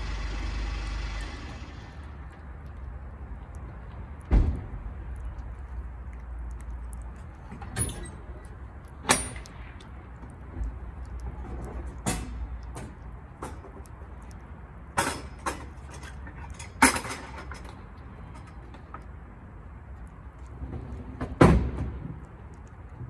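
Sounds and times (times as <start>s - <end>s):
cat licking and chewing wet food: 0.0s - 23.0s.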